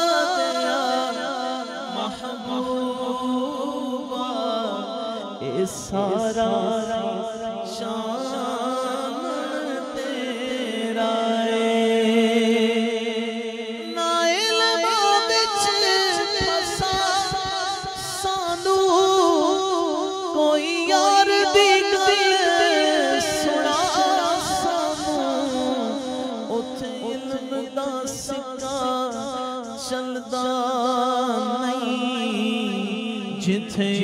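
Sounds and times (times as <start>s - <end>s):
man singing ornamented notes: 0.0s - 34.0s.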